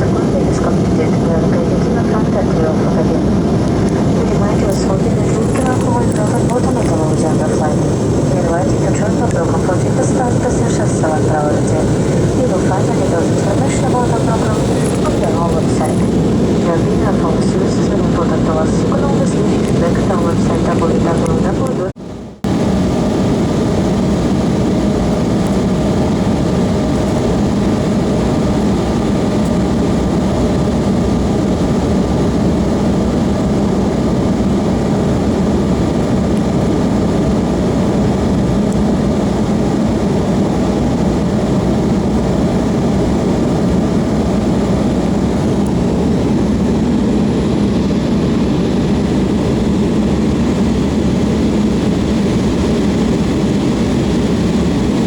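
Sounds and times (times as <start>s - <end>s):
aircraft engines droning: 0.0s - 55.0s.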